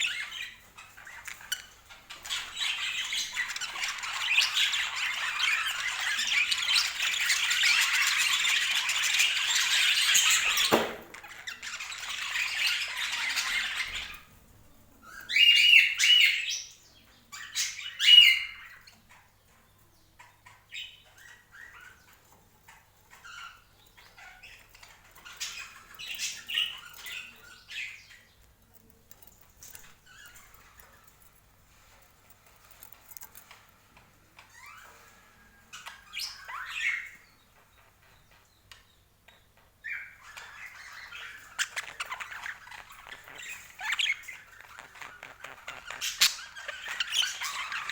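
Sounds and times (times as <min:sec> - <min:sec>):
budgerigars chattering and warbling: 0:00.0 - 0:14.4, 0:15.0 - 0:28.4, 0:34.4 - 0:38.3, 0:39.8 - 0:47.9
soft bird chirps: 0:00.0 - 0:47.9.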